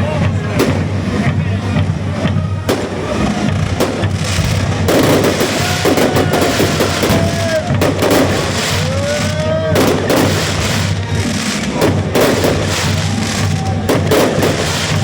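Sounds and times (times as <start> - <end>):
background music: 0.0 - 15.0
fireworks bangs and crackling: 0.0 - 15.0
whistling firework shells: 2.3 - 15.0.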